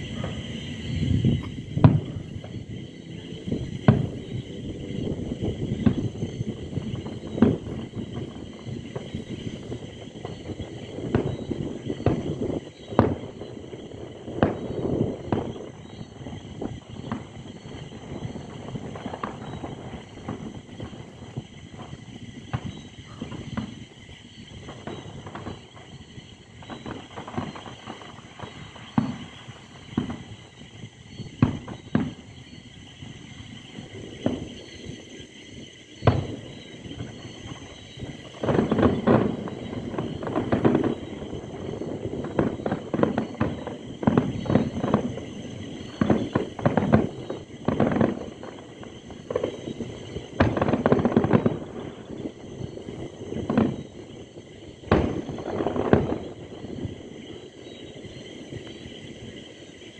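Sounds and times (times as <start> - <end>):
distant fireworks booms and cracks: 0.0 - 59.9
low rumble of fireworks: 0.0 - 59.9
night insects chorus: 0.0 - 59.9.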